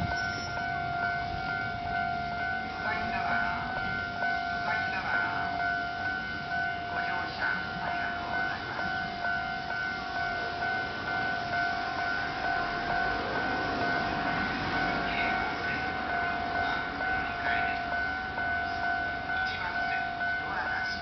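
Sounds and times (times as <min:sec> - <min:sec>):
level crossing alarm ringing: 0:00.0 - 0:21.0.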